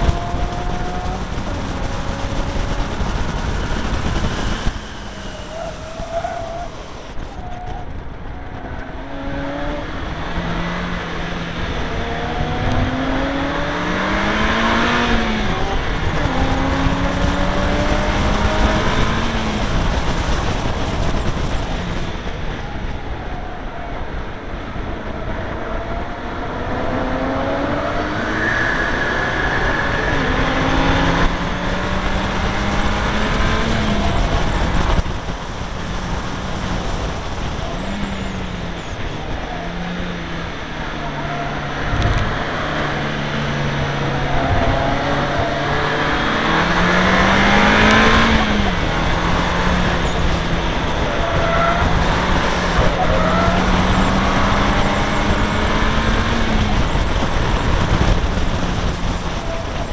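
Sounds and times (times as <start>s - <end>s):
car engine at full throttle: 0.0s - 59.9s.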